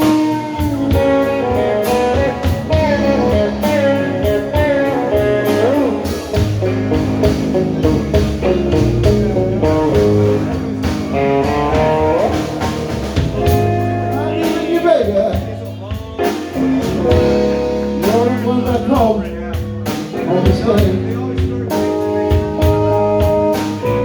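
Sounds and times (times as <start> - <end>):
blues band playing: 0.0 - 24.0
electric guitar lead: 0.0 - 24.0.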